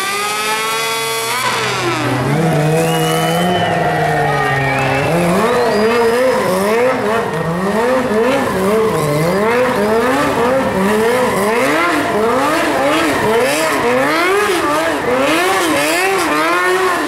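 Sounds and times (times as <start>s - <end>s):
motorcycle engine revving hard: 0.0s - 17.0s.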